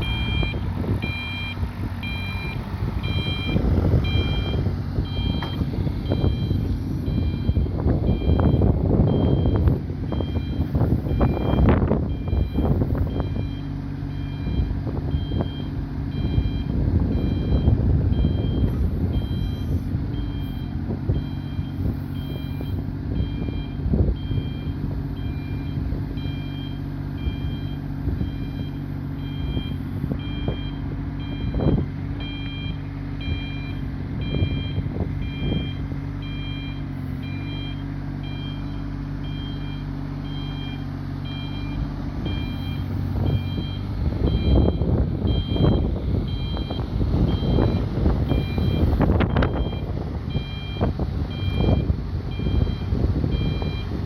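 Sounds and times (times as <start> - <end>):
excavator engine humming: 0.0 - 54.0
warning alarm beeping: 0.0 - 54.0.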